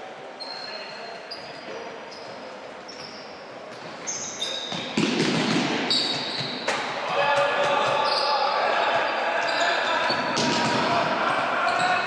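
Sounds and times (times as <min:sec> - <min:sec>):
sneakers squeaking on hall floor: 0:00.4 - 0:12.0.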